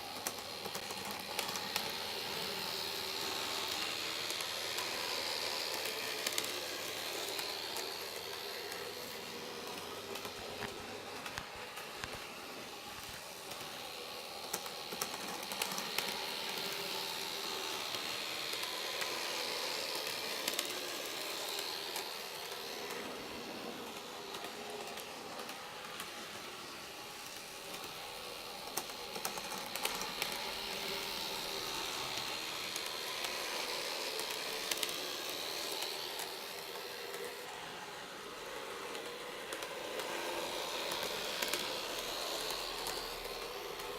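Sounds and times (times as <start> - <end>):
model train motor whine: 0.0 - 43.9
model train wheels clicking: 0.0 - 43.9.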